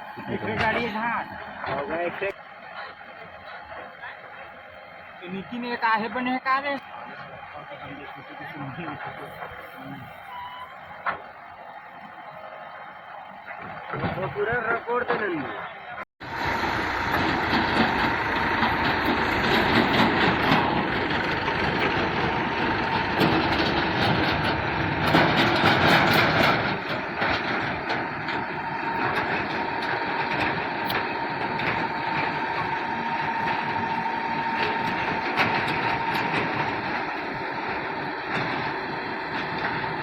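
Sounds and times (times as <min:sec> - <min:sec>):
backhoe diesel engine under load: 0:00.0 - 0:40.0.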